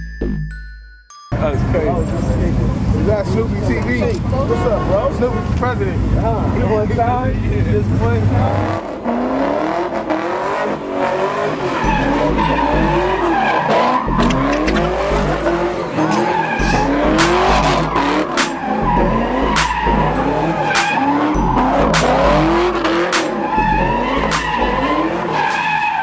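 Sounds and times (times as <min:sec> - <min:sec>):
car engine revving: 0:01.6 - 0:26.0
tyres squealing on asphalt: 0:01.6 - 0:26.0.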